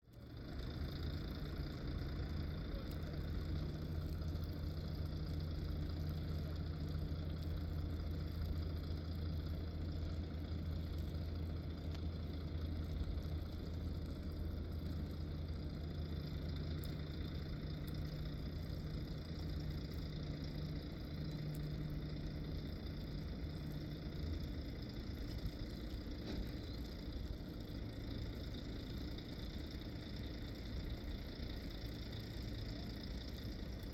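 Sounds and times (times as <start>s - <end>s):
engine running at low speed: 0.0s - 33.9s.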